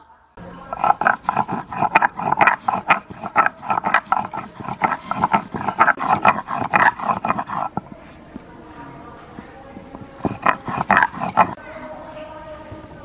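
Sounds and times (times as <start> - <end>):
stone roller grinding seeds: 0.7 - 11.6.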